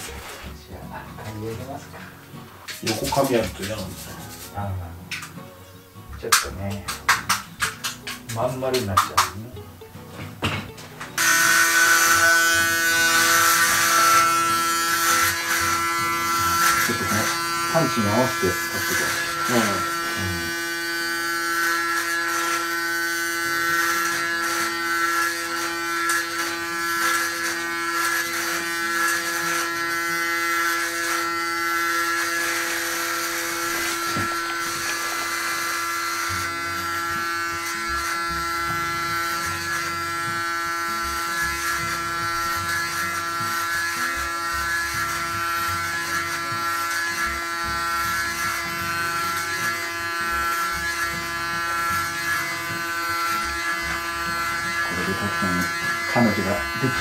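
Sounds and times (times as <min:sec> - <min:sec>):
electric hair clippers running: 0:11.2 - 0:57.0.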